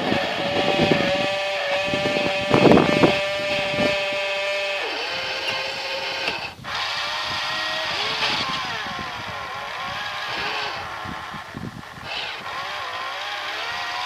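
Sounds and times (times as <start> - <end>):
small electric motors whining: 0.0 - 14.0.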